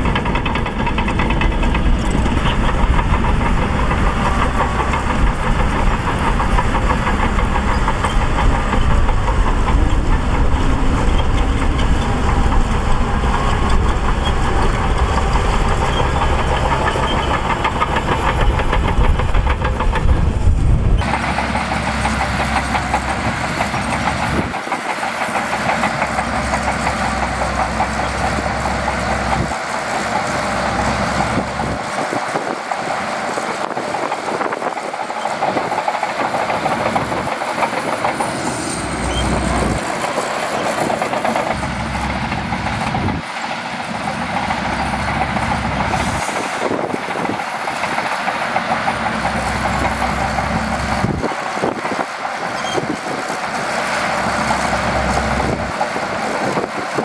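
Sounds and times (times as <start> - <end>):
diesel engine under load: 0.0 - 57.0
steel tracks clanking: 0.0 - 57.0.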